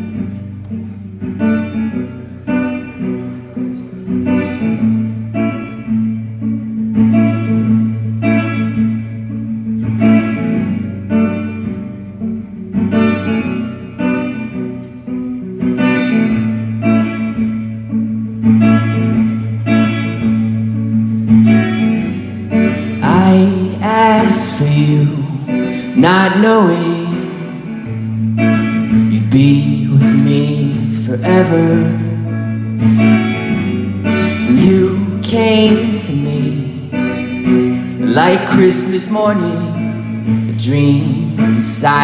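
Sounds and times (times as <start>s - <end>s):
guitar plucked chords: 0.0s - 42.0s.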